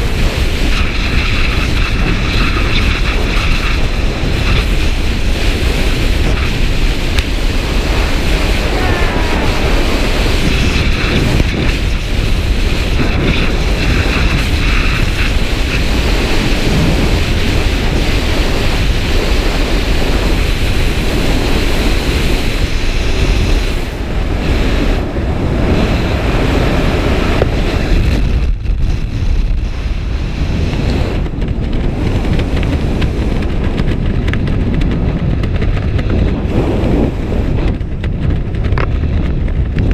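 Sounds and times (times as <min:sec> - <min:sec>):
wind blasting over microphone: 0:00.0 - 0:39.9.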